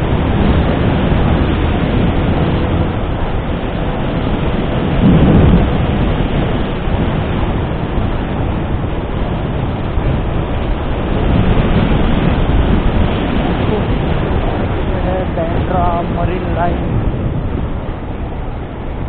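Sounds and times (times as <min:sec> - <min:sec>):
motorcycle running: 0:00.0 - 0:19.0
wind buffeting microphone: 0:00.0 - 0:19.0.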